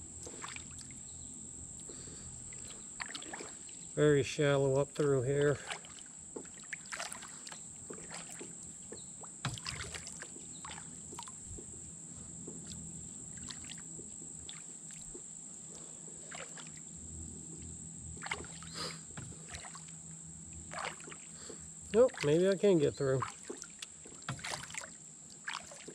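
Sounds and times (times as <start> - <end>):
kayak paddle strokes in water: 0.0 - 25.9.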